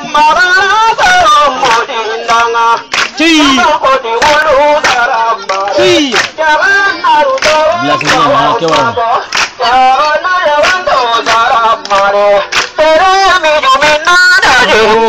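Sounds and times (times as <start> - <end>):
voices singing ornamented melody: 0.0 - 15.0
hand claps: 0.3 - 14.9.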